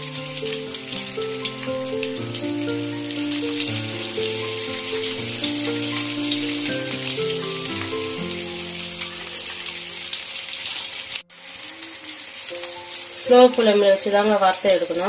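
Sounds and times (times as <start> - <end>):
background music melody: 0.0 - 15.0
oil sizzling and crackling: 0.0 - 15.0.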